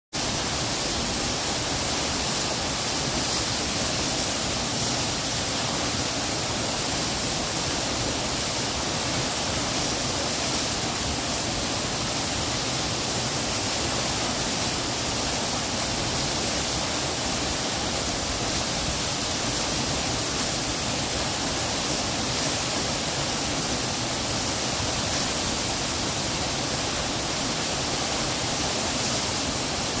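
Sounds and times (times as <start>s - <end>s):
water rushing over boulders: 0.2s - 30.0s.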